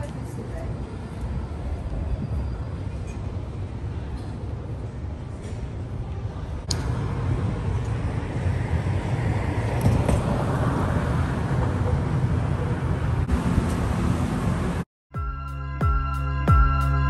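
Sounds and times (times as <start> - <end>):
street traffic rumble: 0.0 - 14.9.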